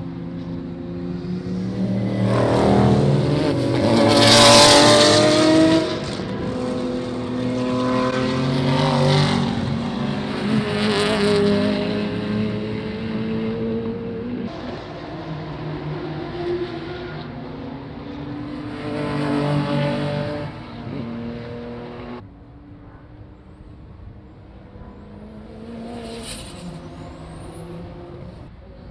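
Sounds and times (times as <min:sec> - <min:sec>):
racing cars passing at speed: 0:00.0 - 0:28.9.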